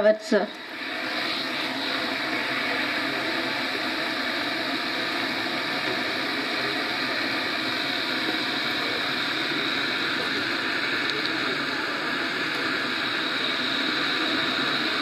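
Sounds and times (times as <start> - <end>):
steady hiss: 0.3 - 15.0.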